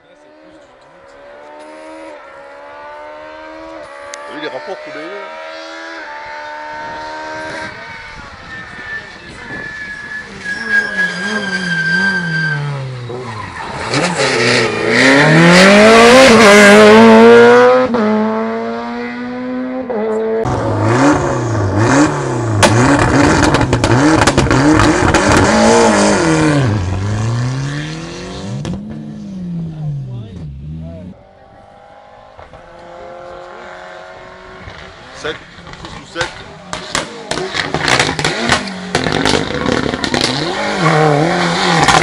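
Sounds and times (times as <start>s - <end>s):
engine revs rising and falling: 0.1s - 9.6s, 10.9s - 42.0s
rally car engine passing: 0.1s - 42.0s.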